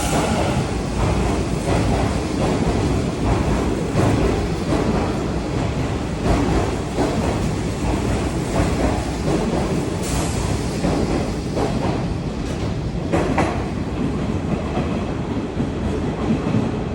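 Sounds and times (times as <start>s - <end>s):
train rumbling on rails: 0.0s - 16.9s.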